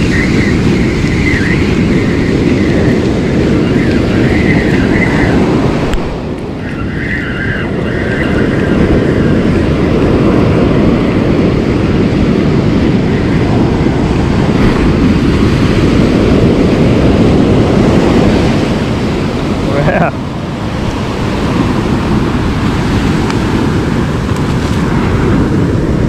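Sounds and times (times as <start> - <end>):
surf breaking on beach: 0.0 - 26.0.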